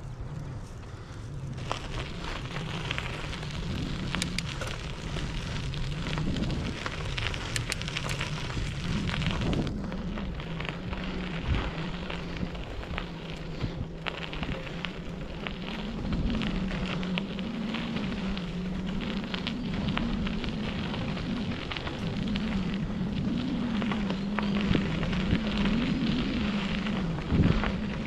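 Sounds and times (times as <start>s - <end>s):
bicycle tyres rolling on gravel: 0.0s - 28.0s
low wavering hum: 0.0s - 28.0s.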